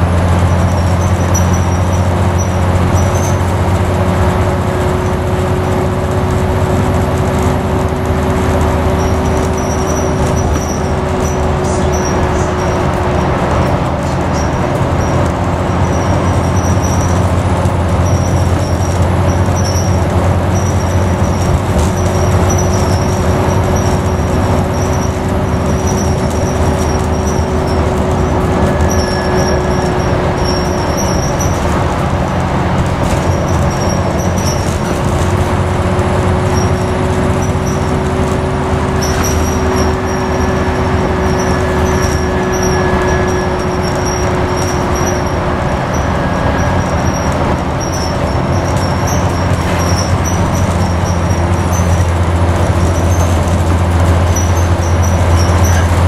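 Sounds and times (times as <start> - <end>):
bus engine running: 0.0 - 56.0
road noise: 0.0 - 56.0
squeaky rattles of bus body: 0.0 - 56.0.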